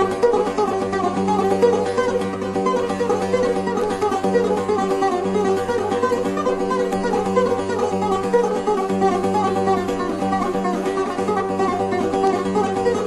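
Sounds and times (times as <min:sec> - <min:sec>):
plucked lute solo: 0:00.0 - 0:13.0.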